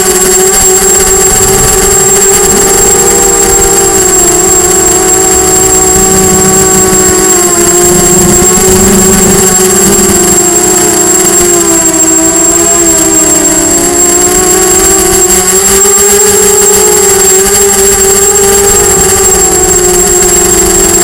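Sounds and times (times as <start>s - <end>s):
high-pitched whine: 0.0s - 21.0s
quadcopter propellers buzzing: 0.0s - 21.0s.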